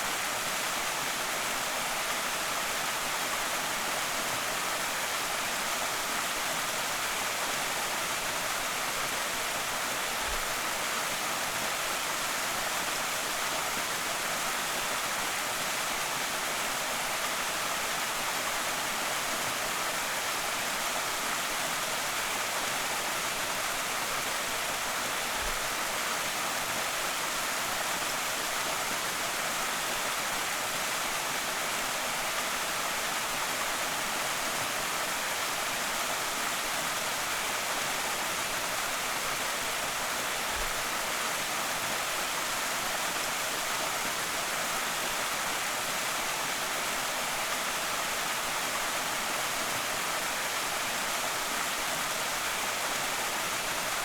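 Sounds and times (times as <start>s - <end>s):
waterfall pouring and splashing: 0.0s - 54.0s.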